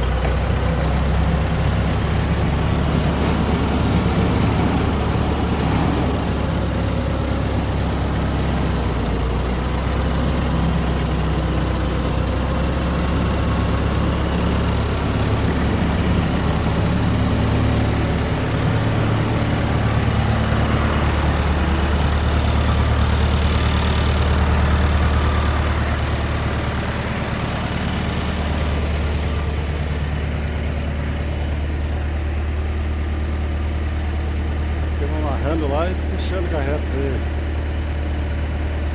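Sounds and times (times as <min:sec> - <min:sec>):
motor engine idling: 0:00.0 - 0:38.9.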